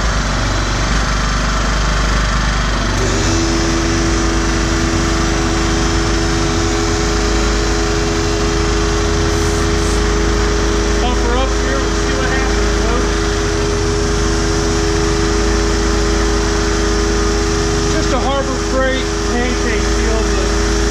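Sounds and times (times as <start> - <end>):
air compressor hum: 0.0 - 20.9
generator engine running: 0.0 - 20.9.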